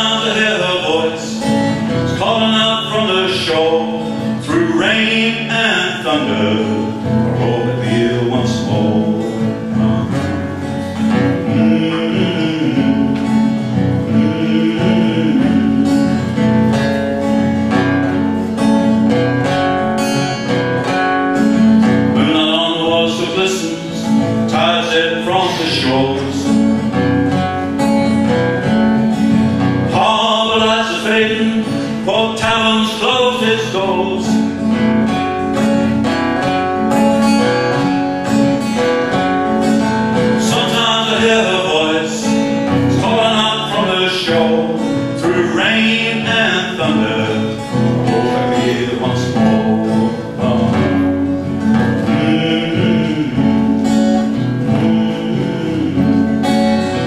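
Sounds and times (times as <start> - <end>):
man singing: 0.0 - 18.3, 19.5 - 28.4, 29.0 - 57.0
acoustic guitar: 0.0 - 57.0.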